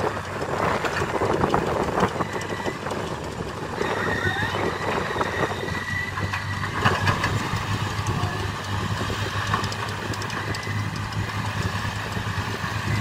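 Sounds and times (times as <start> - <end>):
diesel engines running low hum: 0.0 - 13.0.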